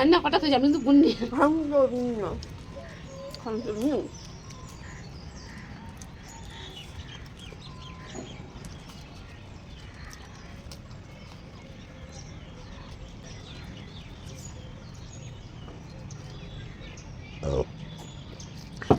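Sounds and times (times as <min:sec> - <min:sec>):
birds chirping: 0:00.0 - 0:18.9
low background noise: 0:00.0 - 0:18.9.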